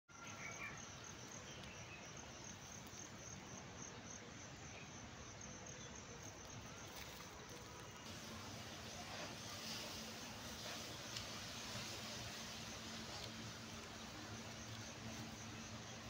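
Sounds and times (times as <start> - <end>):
faint insect chirping: 0.1 - 16.0
soft outdoor background noise: 0.1 - 16.0.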